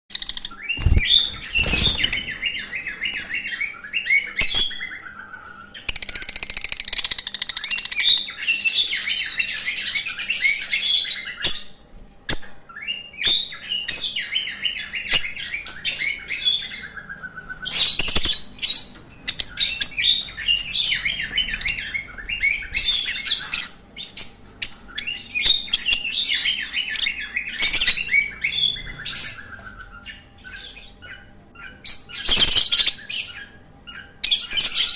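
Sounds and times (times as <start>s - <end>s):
lovebirds chirping and chattering: 0.1s - 34.9s.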